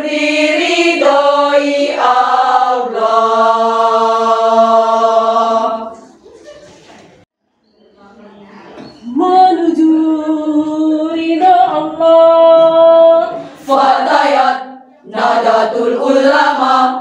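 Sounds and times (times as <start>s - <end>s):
women's choir singing: 0.0s - 6.2s, 9.0s - 17.0s.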